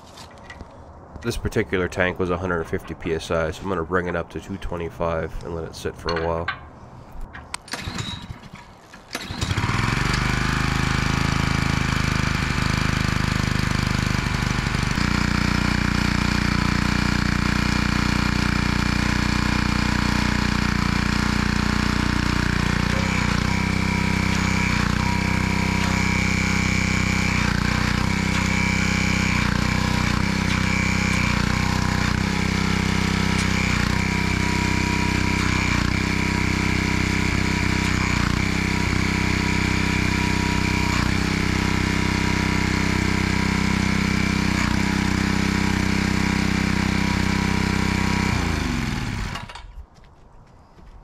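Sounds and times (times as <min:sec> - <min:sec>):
pressure washer running: 0:07.7 - 0:08.3, 0:09.1 - 0:49.6.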